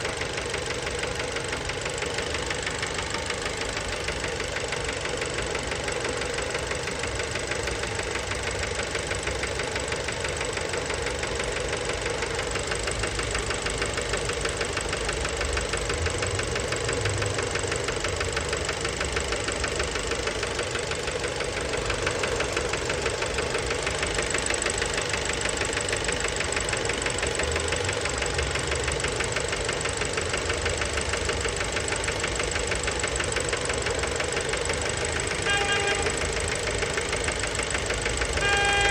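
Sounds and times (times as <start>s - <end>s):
car engine knocking rattle: 0.0s - 38.9s.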